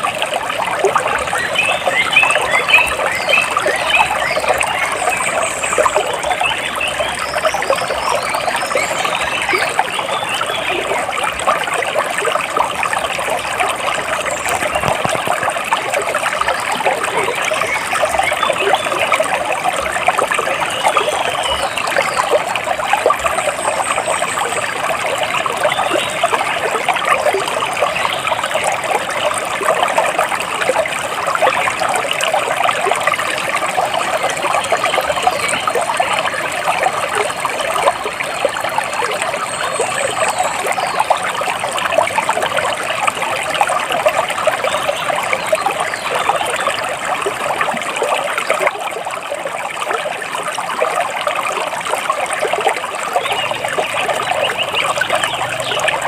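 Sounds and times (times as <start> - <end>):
water trickling over stones: 0.0 - 56.0.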